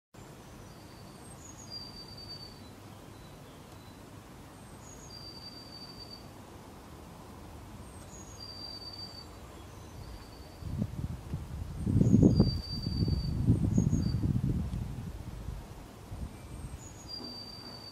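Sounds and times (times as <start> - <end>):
outdoor background hiss: 0.2 - 17.9
songbird singing: 0.2 - 17.9.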